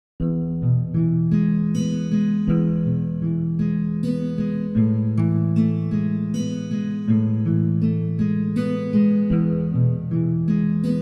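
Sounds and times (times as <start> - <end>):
plucked guitar music: 0.2 - 11.0.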